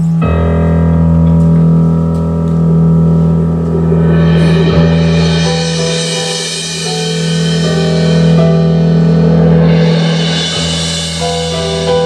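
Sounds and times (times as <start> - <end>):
electronic keyboard chords: 0.0 - 12.0
deep steady drone: 1.7 - 11.9.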